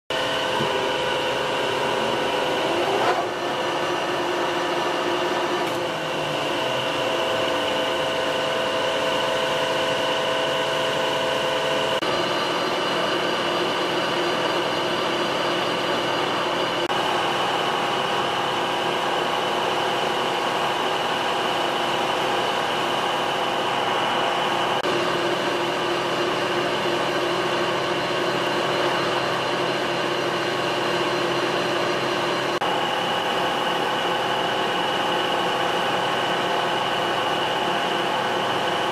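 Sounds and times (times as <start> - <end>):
lathe running with gear whine: 0.1 - 38.9.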